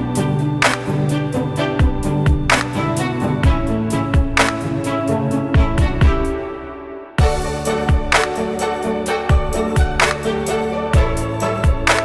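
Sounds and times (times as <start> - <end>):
steady drum beat: 0.0 - 6.4, 7.2 - 12.0
held instrumental tones: 0.0 - 12.0.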